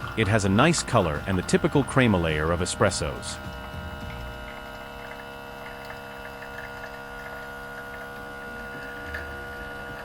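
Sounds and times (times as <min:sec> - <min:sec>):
espresso machine pump humming: 0:00.0 - 0:10.0.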